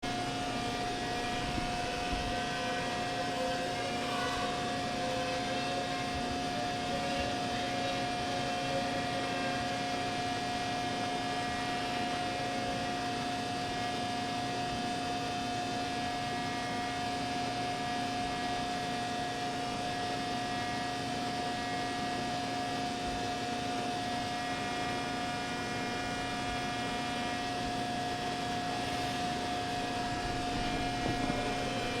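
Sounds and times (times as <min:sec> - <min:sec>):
factory machinery hum: 0:00.0 - 0:32.0.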